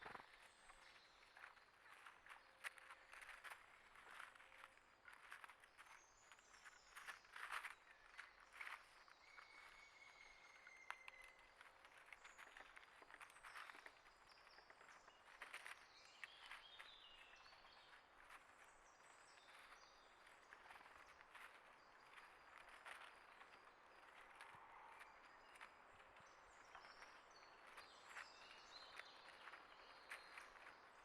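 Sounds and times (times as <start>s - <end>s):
small clicks and scratching: 0.0s - 9.7s, 10.5s - 31.0s.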